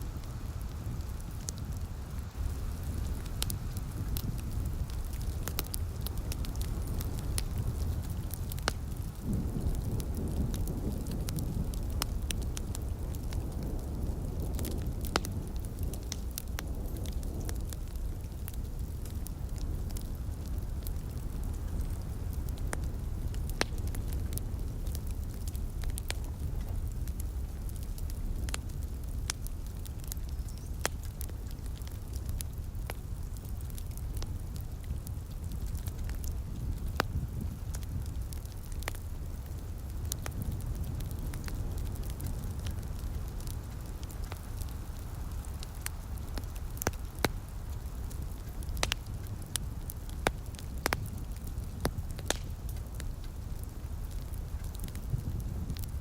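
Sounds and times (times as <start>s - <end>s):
light rain patter: 0.0s - 56.0s
wood fire crackling: 0.0s - 56.0s
sharp fire pops: 0.1s - 56.0s.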